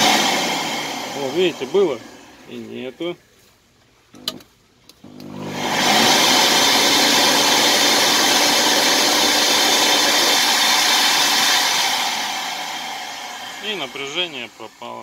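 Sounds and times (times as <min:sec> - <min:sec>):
vacuum cleaner motor running: 0:00.0 - 0:02.5, 0:05.0 - 0:15.0.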